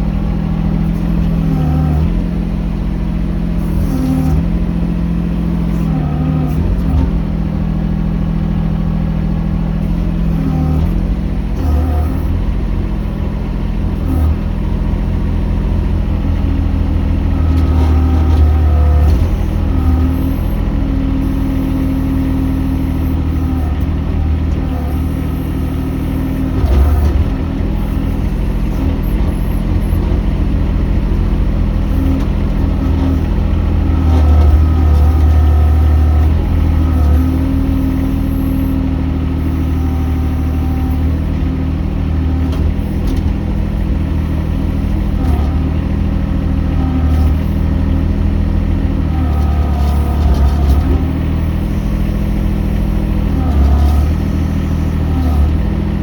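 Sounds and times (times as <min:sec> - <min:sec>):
excavator engine running: 0:00.0 - 0:56.0
hydraulic whine: 0:00.0 - 0:56.0.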